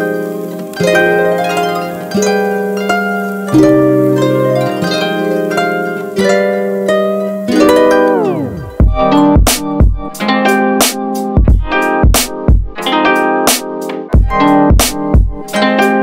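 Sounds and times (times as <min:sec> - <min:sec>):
plucked-string melody: 0:00.0 - 0:16.0.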